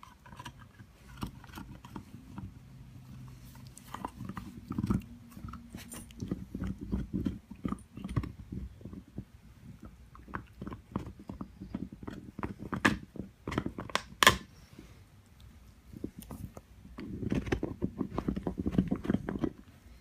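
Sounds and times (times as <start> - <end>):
dog gnawing on antler: 0.0 - 14.5, 15.9 - 19.7.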